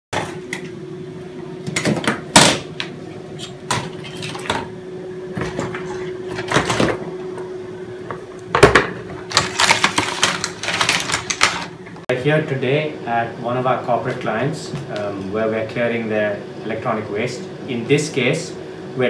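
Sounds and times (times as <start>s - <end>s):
steady low hum: 0.2s - 19.0s.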